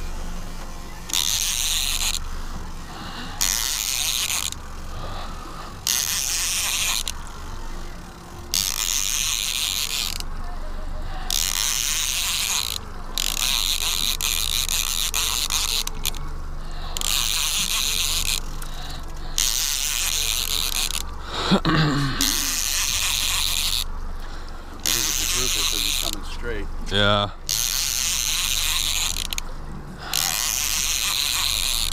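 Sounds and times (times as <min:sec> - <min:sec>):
boat engine hum: 0:00.0 - 0:31.9
fishing reel ratcheting whir: 0:00.0 - 0:31.9.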